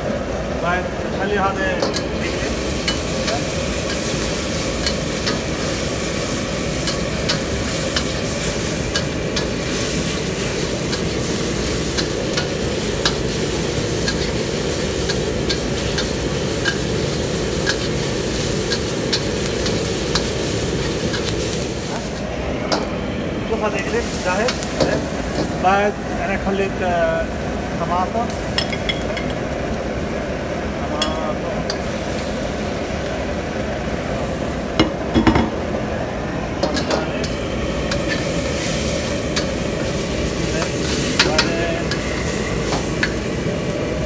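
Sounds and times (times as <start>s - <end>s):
gas burner rushing: 0.0s - 44.0s
onions sizzling in hot oil: 0.3s - 35.8s, 36.4s - 44.0s.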